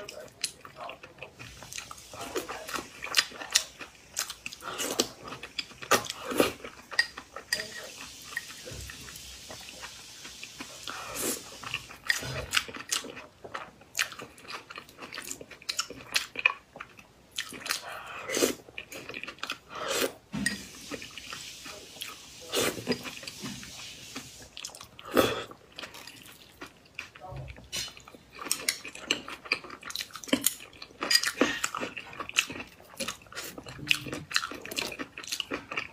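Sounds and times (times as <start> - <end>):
person chewing: 0.0 - 35.9.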